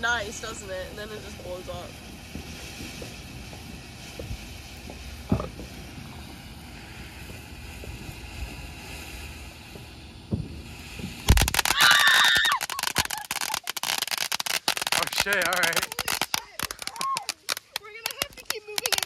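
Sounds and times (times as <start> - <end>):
firework bangs and crackling: 0.0 - 19.0.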